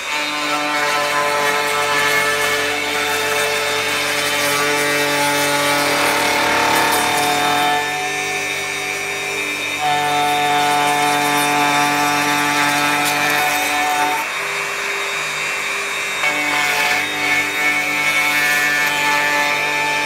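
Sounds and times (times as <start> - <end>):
electric hand planer shaving wood: 0.0 - 20.0.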